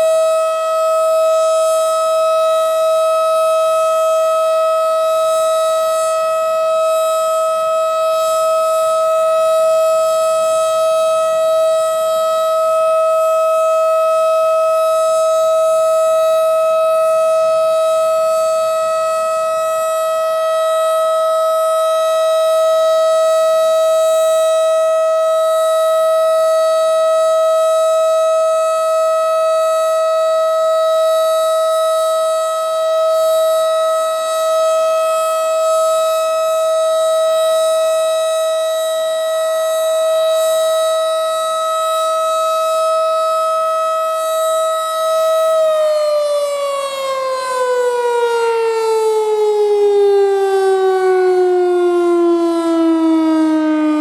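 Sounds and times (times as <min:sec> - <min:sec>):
rotating siren alert tone: 0:00.0 - 0:54.0.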